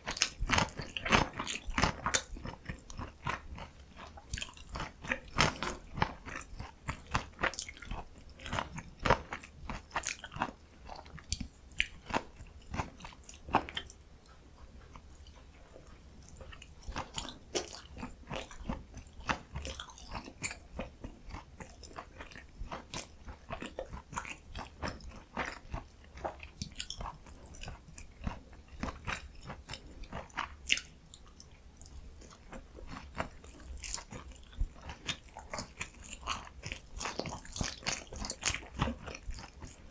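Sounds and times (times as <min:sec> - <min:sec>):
person chewing crunchy dumplings: 0:00.0 - 0:39.9.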